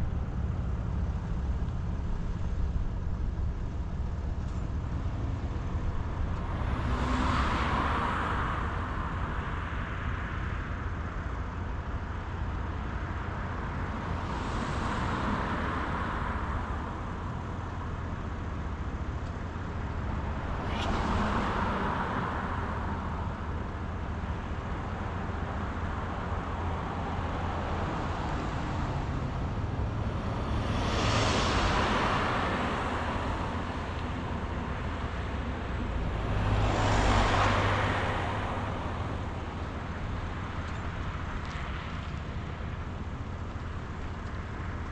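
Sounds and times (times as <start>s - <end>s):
car road and engine rumble: 0.0s - 44.9s
vehicles passing: 0.0s - 44.9s.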